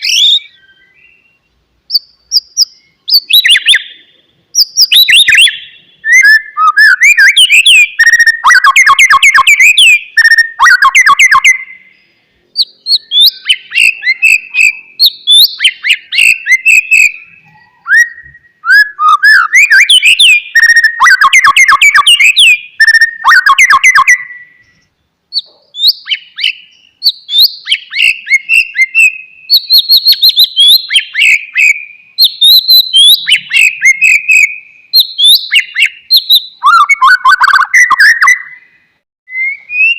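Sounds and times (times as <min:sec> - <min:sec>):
bird singing whistles and clicks: 0:01.9 - 0:11.9, 0:12.6 - 0:38.7, 0:39.3 - 0:39.9.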